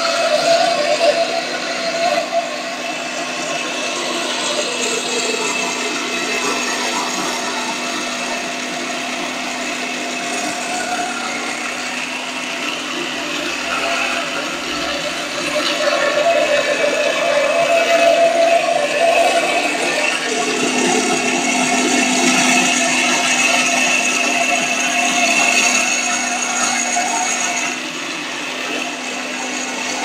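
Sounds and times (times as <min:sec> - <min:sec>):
dessert maker motor hum: 0:00.0 - 0:30.0
frozen fruit grinding: 0:00.0 - 0:30.0.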